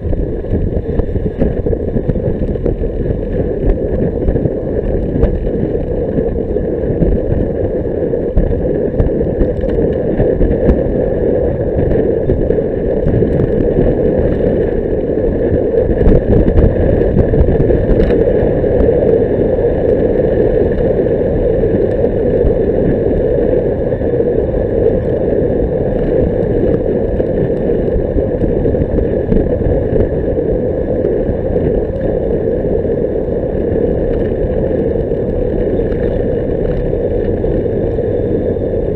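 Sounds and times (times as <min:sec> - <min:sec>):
muffled wind rush: 0:00.0 - 0:38.9
road noise: 0:00.0 - 0:38.9.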